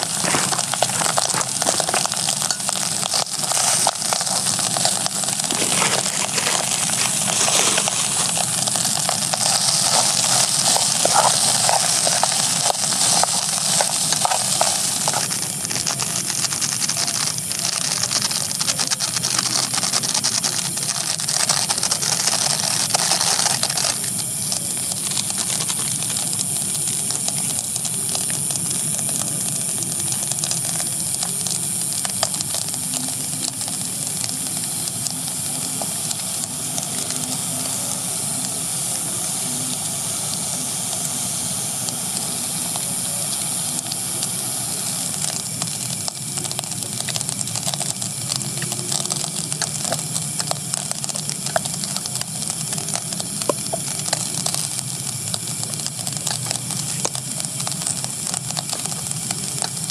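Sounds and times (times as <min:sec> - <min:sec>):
rice sizzling in a pan: 0:00.0 - 0:59.9.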